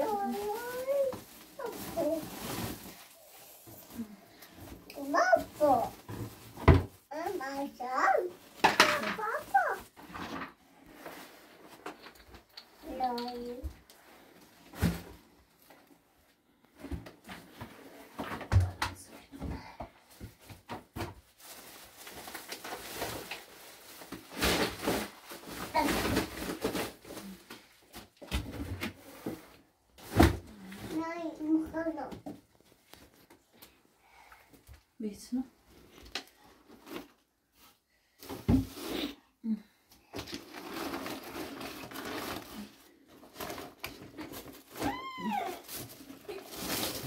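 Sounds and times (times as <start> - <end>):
plastic bucket rustling and scraping: 0.0 - 33.6, 35.7 - 39.2, 40.1 - 47.0.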